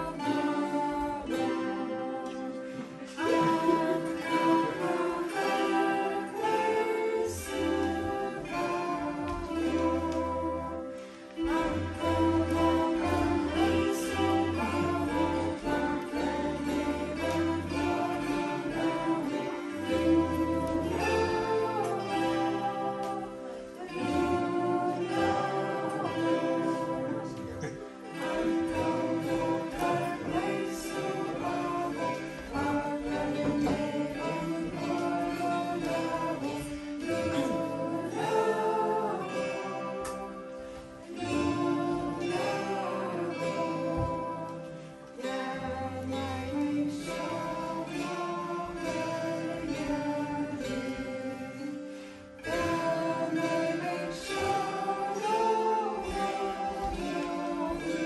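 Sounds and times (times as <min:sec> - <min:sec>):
children singing: 0:00.0 - 0:58.0
plucked zither playing: 0:00.0 - 0:58.0.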